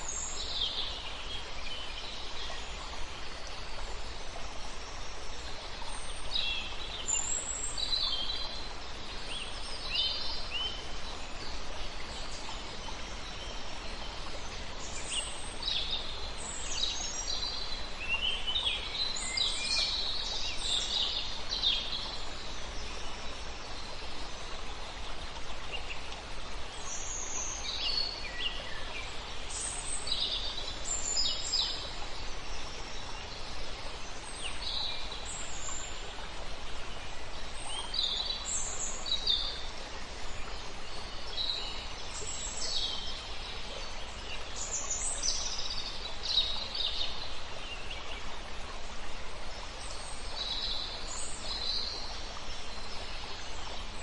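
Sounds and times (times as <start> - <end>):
river water flowing: 0.0 - 54.0
songbirds chirping: 0.0 - 54.0.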